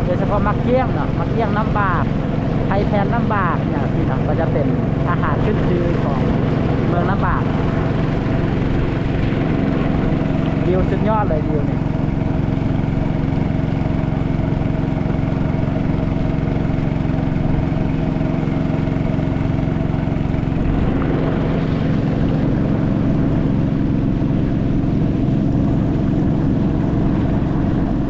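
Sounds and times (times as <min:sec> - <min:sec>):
motorboat engine running: 0:00.0 - 0:28.0.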